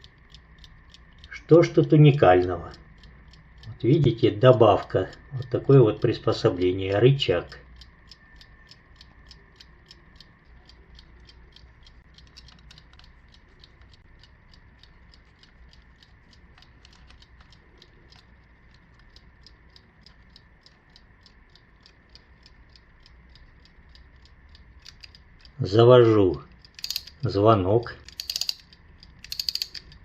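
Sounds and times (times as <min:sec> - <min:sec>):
alarm clock ticking: 0:00.0 - 0:30.0.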